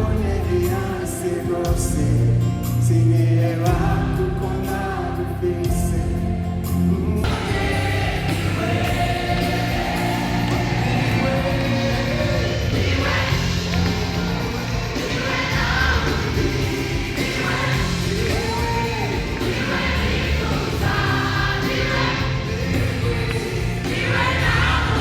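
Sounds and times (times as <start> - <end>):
choir singing gospel music: 0.0 - 25.0
steady bass accompaniment: 0.0 - 25.0.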